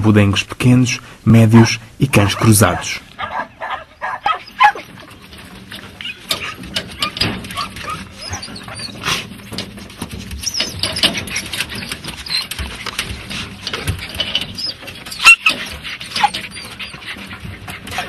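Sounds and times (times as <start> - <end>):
dogs whining and yelping: 2.4 - 9.7, 10.3 - 18.0.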